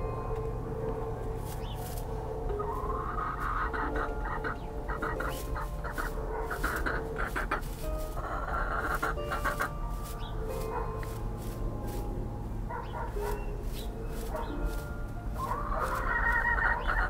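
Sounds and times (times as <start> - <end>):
hay rustling: 1.4 - 17.0
hen clucking: 1.4 - 17.0.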